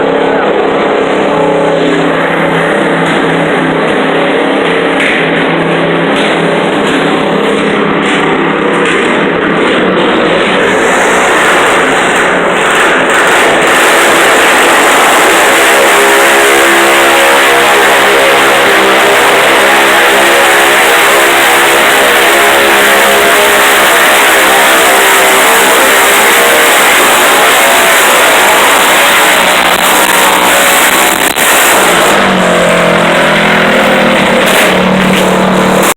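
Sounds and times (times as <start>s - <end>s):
tractor engine at high revs: 0.0s - 35.9s.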